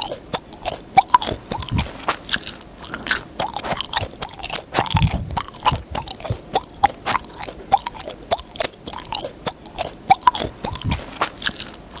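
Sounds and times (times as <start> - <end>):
chewing gum smacks: 0.0 - 12.0.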